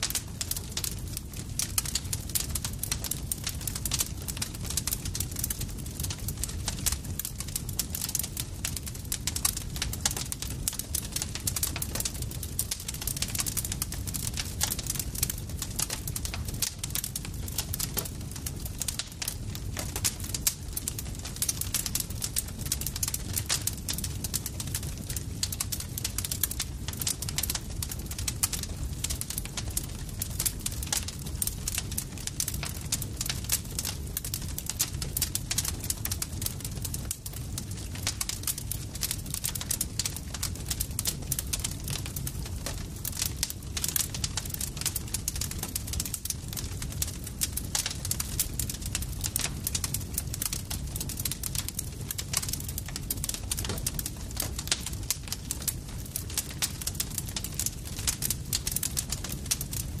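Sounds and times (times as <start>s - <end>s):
burning wood rumble: 0.0s - 60.0s
campfire crackling: 0.0s - 60.0s.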